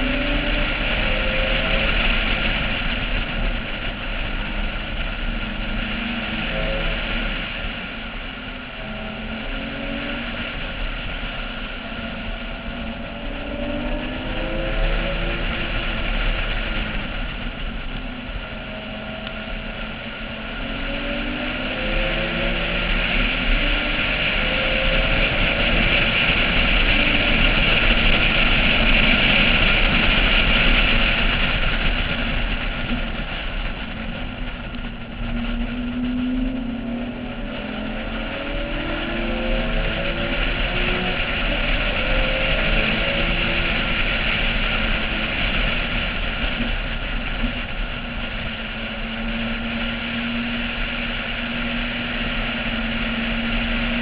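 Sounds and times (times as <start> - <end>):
car engine at full throttle: 0.0 - 54.0
wind rush on microphone: 0.0 - 54.0.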